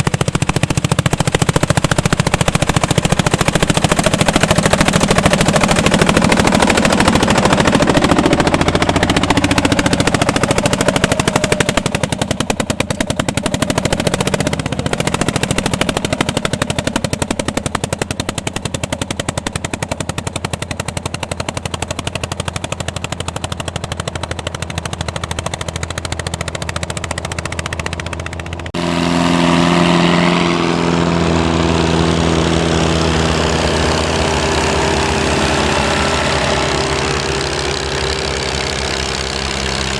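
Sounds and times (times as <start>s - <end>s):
tractor engine exhaust beats: 0.0s - 39.9s
tractor engine running steadily: 0.0s - 39.9s.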